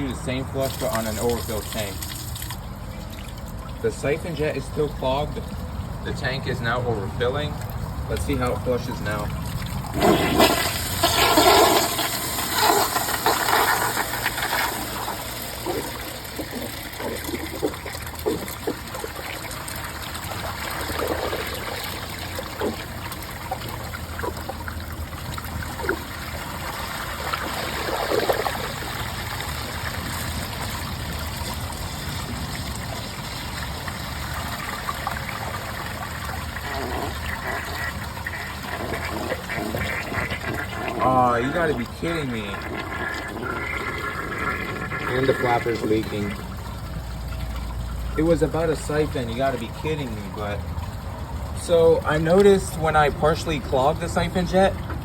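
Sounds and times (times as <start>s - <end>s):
toilet flushing: 0.0s - 2.7s, 8.1s - 55.0s
water gurgling and glugging: 0.0s - 55.0s.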